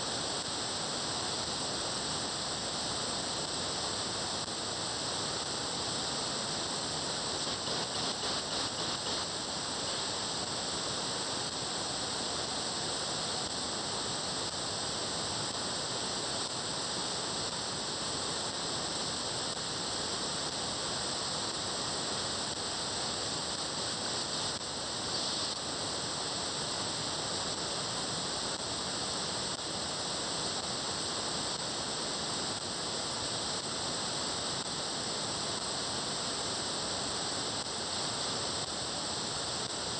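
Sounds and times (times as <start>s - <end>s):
radio receiver hiss: 0.0s - 39.9s.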